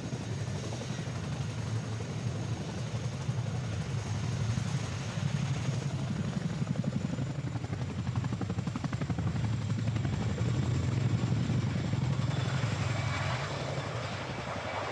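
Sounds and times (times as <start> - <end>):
helicopter rotors and engines: 0.0 - 14.9.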